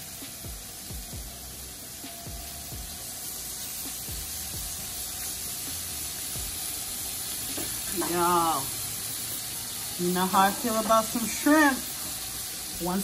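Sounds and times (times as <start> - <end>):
background music: 0.0 - 13.0
shrimp sizzling in hot oil: 0.0 - 13.0.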